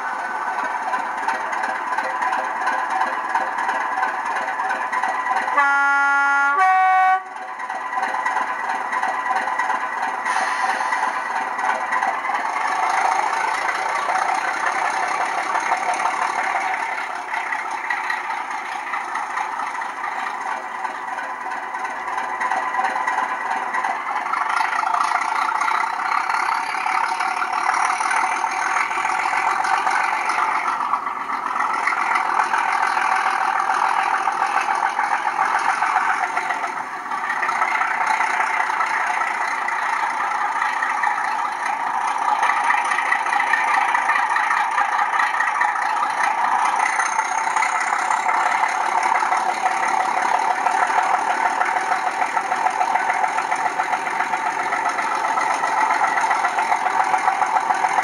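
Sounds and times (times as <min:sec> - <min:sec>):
diesel locomotive engine from small speaker: 0:00.0 - 0:58.0.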